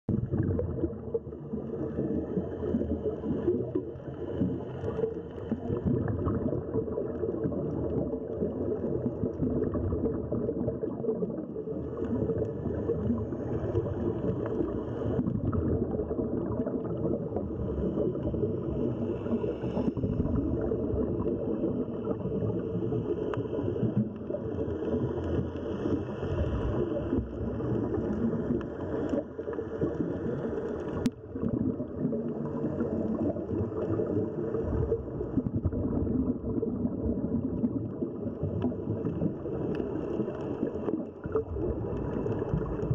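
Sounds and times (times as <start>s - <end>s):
muffled underwater rumble: 0.0s - 42.9s.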